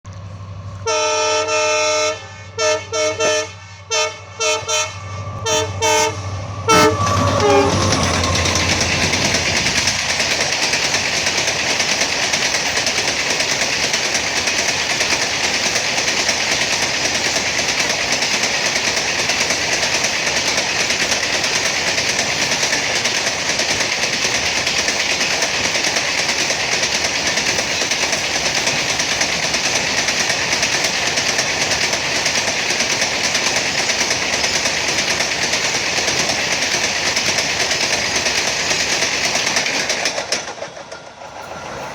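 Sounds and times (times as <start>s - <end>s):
freight train wheels on rails: 0.0s - 41.9s.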